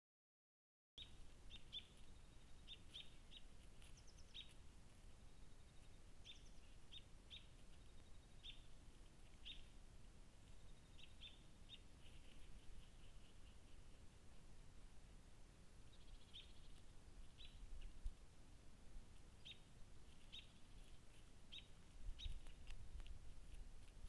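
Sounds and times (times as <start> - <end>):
faint steady hiss: 1.0 - 24.0
small birds chirping: 1.0 - 24.0.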